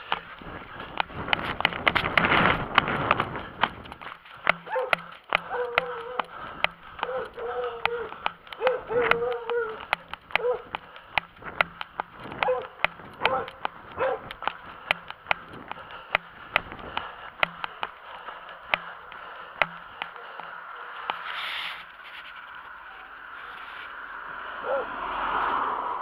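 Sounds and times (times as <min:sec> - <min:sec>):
footsteps running on pavement: 0:00.0 - 0:21.4.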